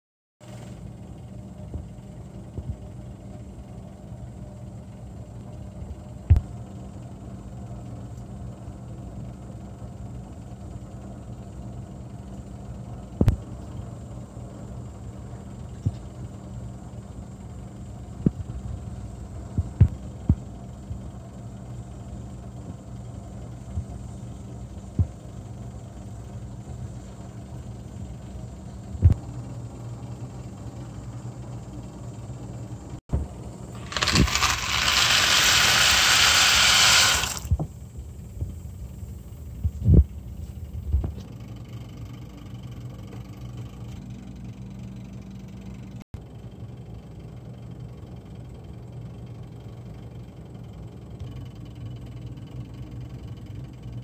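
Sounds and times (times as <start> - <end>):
steady low hum: 0.4 - 54.0.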